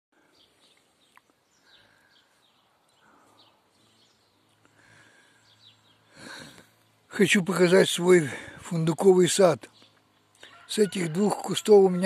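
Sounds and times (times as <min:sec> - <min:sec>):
low outdoor hush: 0:00.2 - 0:11.6
faint birds chirping: 0:00.2 - 0:12.0.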